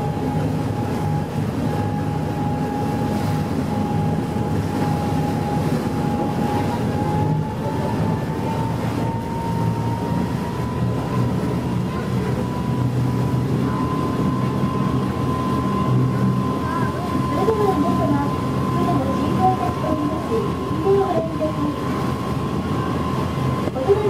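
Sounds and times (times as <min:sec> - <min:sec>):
boat engine drone: 0:00.0 - 0:24.0
engine whine: 0:00.0 - 0:24.0
rushing wind and water: 0:00.0 - 0:24.0.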